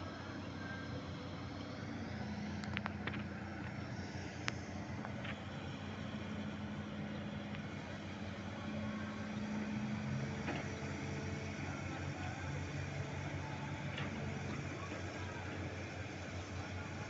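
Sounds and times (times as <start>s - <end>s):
low machinery tone: 0.0s - 17.0s
ship machinery humming: 0.0s - 17.0s.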